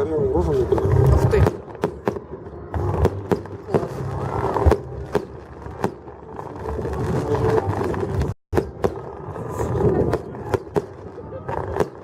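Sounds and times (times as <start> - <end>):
fireworks bangs: 0.6 - 12.0.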